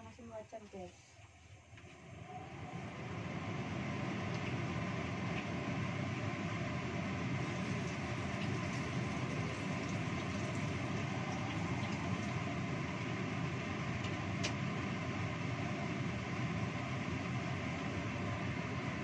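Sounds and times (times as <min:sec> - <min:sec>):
gas burner rushing: 0:01.7 - 0:19.0.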